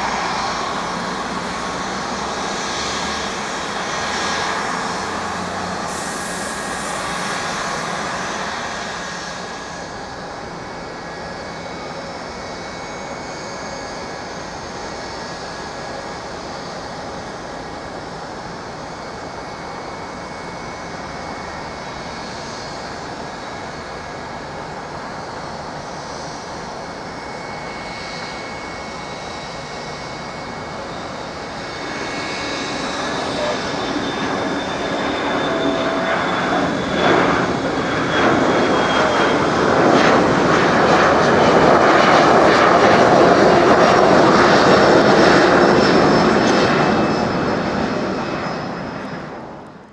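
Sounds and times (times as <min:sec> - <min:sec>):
high jet engine whine: 0:00.0 - 0:49.9
jet engine noise: 0:00.0 - 0:49.9.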